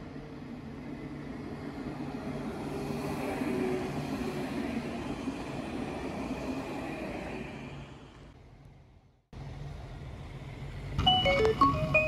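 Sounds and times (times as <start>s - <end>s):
tram rolling past: 0.0s - 12.0s.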